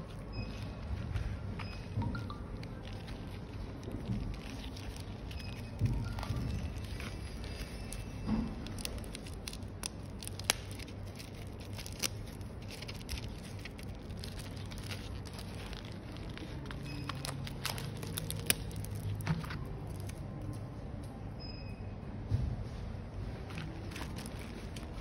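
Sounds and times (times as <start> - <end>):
bubble wrap crinkling: 0.0 - 20.8, 23.2 - 25.0
steady low hum: 0.0 - 25.0.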